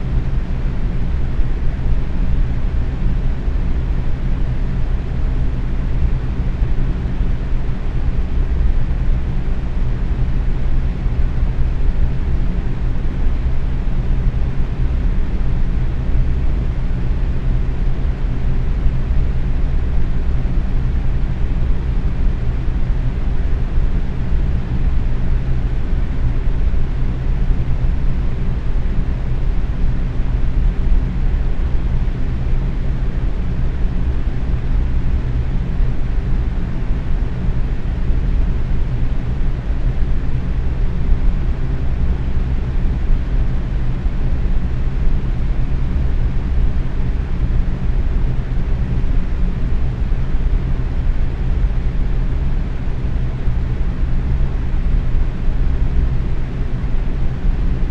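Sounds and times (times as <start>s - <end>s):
faint motor hum: 0.0s - 57.9s
fan whooshing air: 0.0s - 57.9s.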